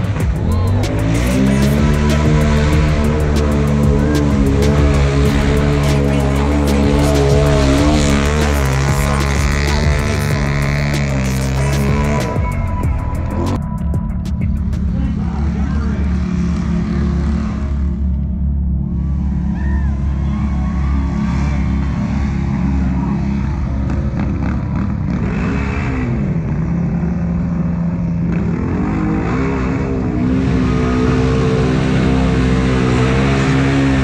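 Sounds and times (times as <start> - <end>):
off-road engines revving: 0.0 - 34.0.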